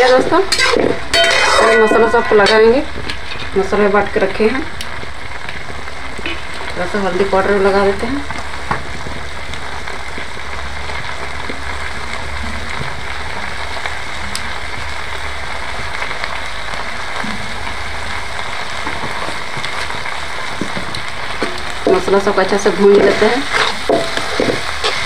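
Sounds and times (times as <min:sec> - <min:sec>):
onions and mushrooms sizzling in a wok: 0:00.0 - 0:25.0.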